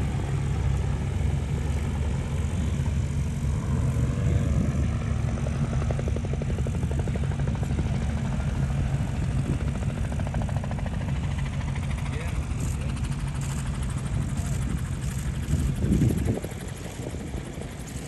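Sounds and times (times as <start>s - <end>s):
gyroplane engine and propeller droning: 0.0s - 18.0s.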